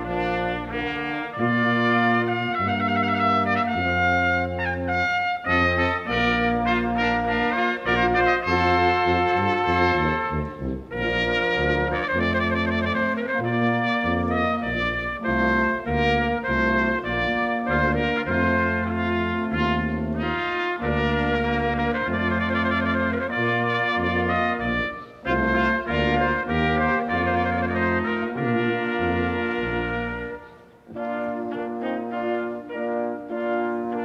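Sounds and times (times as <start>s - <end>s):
brass ensemble playing chords: 0.0s - 34.0s.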